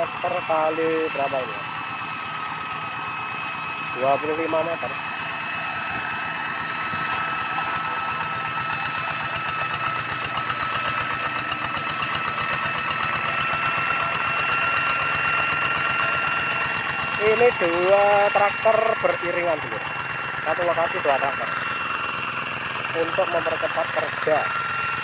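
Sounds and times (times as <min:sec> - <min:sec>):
diesel engine chugging: 0:00.0 - 0:25.0.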